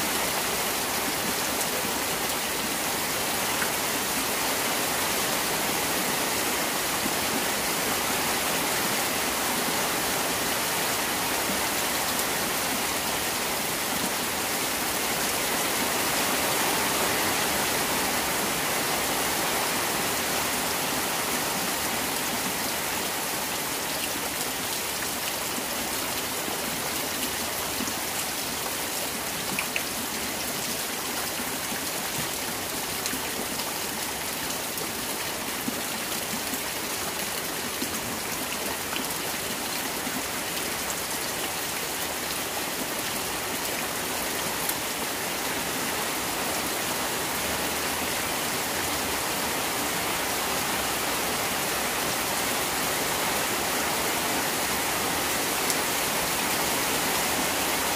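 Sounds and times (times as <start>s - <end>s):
heavy rain falling on water: 0.0s - 57.9s.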